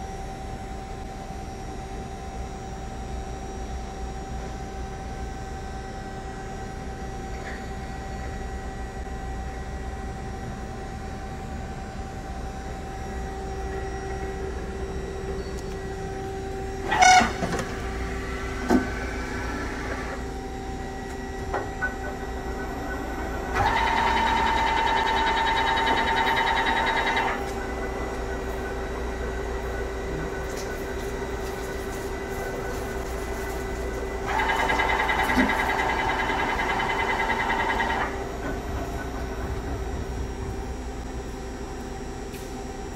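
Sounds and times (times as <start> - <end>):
lathe carriage drive whine: 0.0 - 42.9
lathe electrical hum: 0.0 - 42.9.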